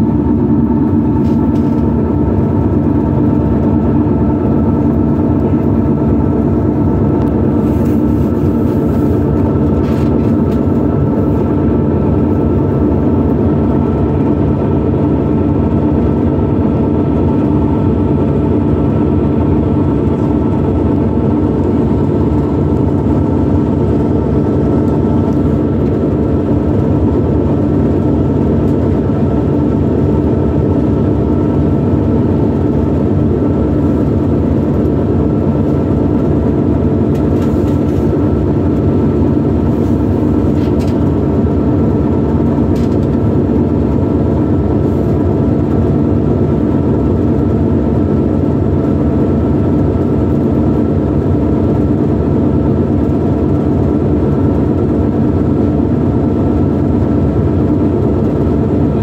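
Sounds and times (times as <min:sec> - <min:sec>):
hydrofoil engines droning: 0:00.0 - 0:59.0.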